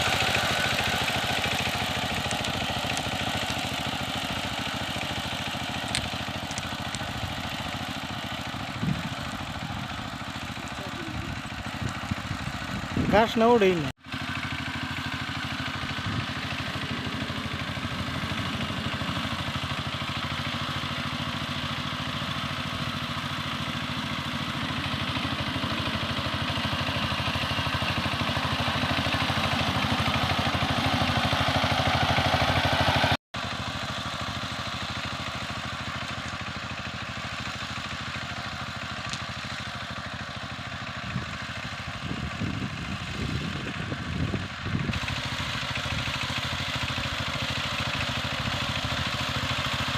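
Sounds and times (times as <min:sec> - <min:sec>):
power tiller diesel engine running: 0:00.0 - 0:49.9.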